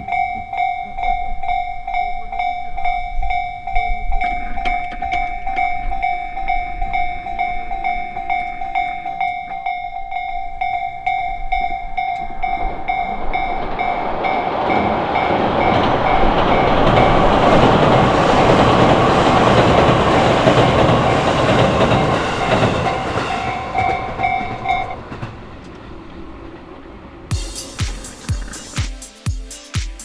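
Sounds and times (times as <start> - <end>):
level-crossing warning bell: 0.0 - 28.8
train wheels rumbling and clattering: 0.0 - 28.8.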